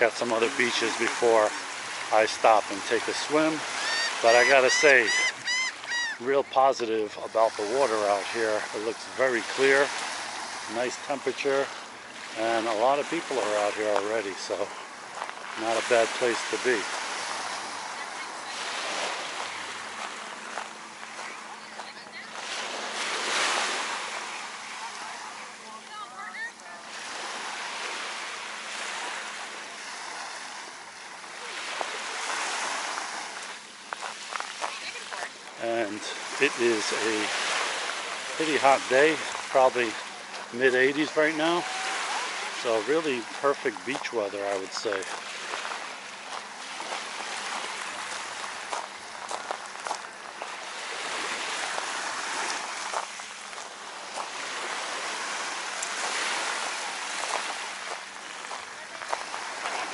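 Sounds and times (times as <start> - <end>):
small waves washing onto shore: 0.0 - 59.9.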